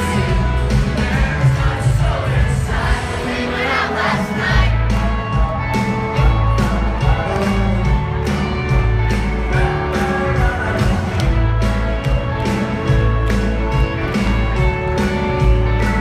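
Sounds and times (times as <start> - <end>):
live country band music: 0.0 - 16.0.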